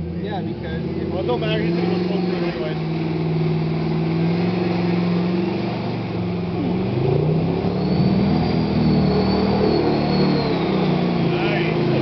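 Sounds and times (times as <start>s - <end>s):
engine revving under load: 0.0s - 12.0s.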